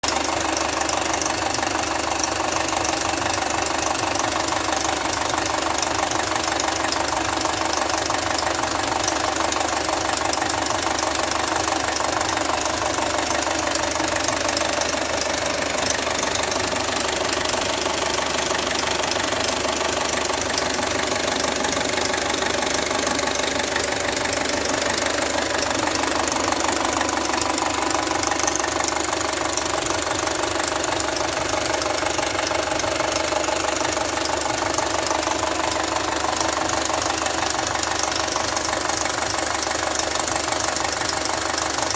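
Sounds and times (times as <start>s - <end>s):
car engine idling: 0.0s - 41.9s
engine rattling and knocking: 0.0s - 41.9s.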